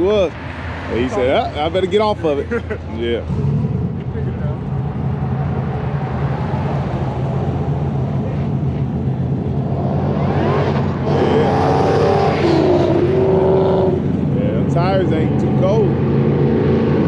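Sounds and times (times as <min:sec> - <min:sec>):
car engines idling: 0:00.0 - 0:17.0
car engine revving and accelerating: 0:03.1 - 0:17.0.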